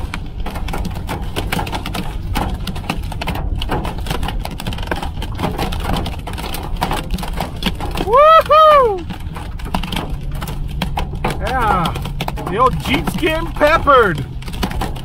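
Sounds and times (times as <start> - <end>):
hail clattering on a car: 0.0 - 15.0.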